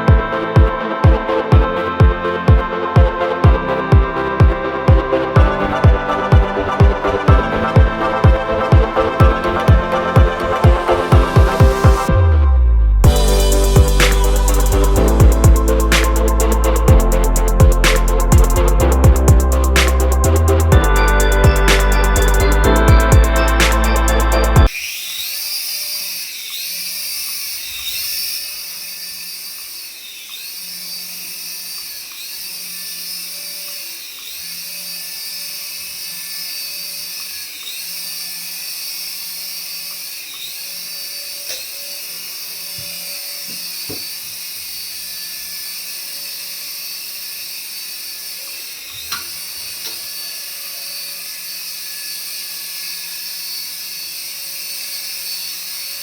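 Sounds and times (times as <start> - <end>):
toy electric motor whine: 0.0 - 12.2, 13.0 - 56.0.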